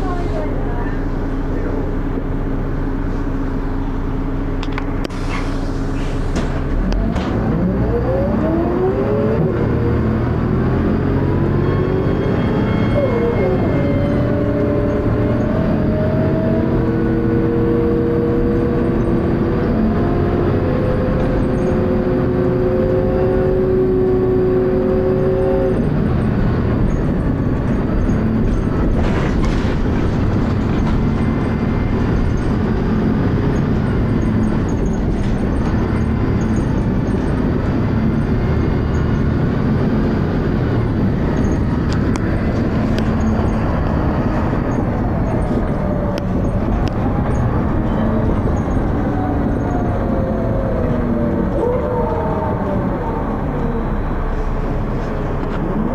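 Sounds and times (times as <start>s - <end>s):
bus whine rising in pitch: 0.0s - 55.9s
engine and road rumble: 0.0s - 55.9s.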